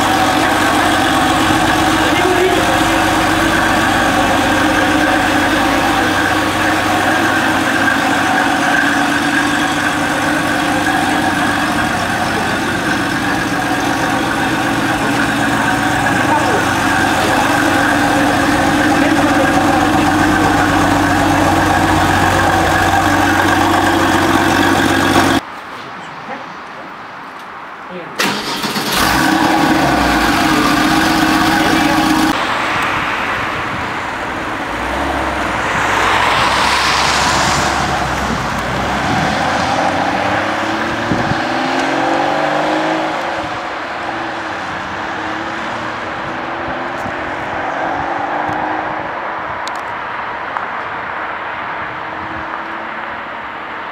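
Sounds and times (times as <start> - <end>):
car engine idling: 0.0 - 25.4, 28.2 - 47.6
traffic and road noise: 0.0 - 53.9.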